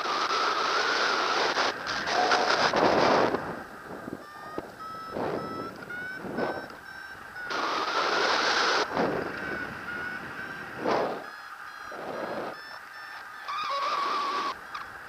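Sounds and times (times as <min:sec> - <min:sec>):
variometer short high beeps: 0:00.2 - 0:15.0
wind rushing over microphone: 0:00.5 - 0:13.0.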